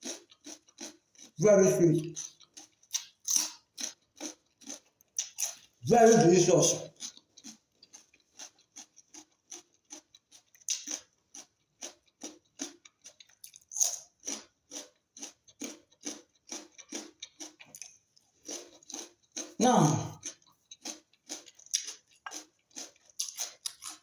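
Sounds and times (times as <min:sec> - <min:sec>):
person chewing fruit: 0:00.0 - 0:24.0.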